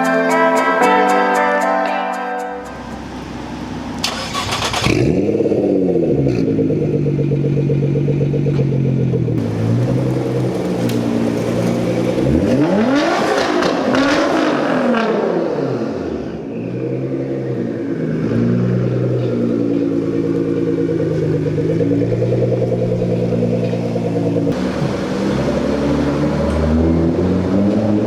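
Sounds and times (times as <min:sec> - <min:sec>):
car engine revving: 0:02.5 - 0:28.0
exhaust crackle: 0:02.6 - 0:28.0.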